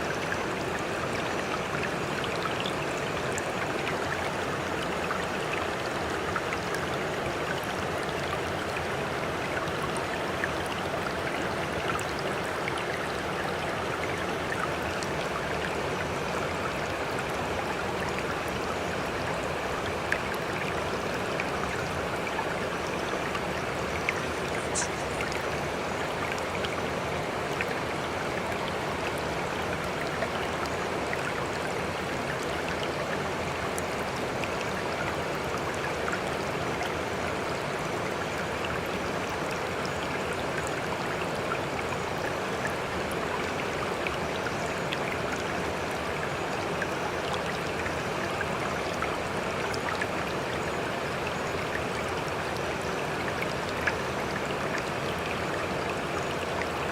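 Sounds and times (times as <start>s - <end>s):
water rushing and trickling: 0.0s - 56.9s.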